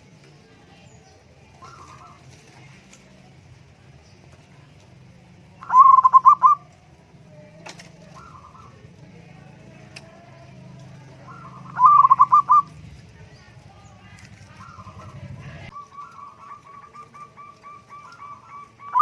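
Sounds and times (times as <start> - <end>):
dove cooing: 1.4 - 3.4, 4.3 - 19.0.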